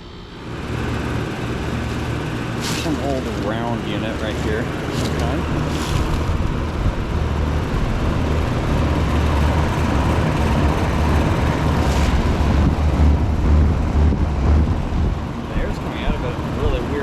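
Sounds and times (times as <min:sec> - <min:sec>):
air conditioner condenser running: 0:00.0 - 0:17.0.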